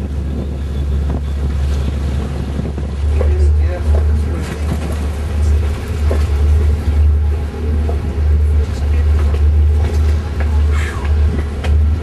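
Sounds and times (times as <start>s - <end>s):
water washing: 0.0s - 12.0s
wind buffeting microphone: 0.0s - 12.0s.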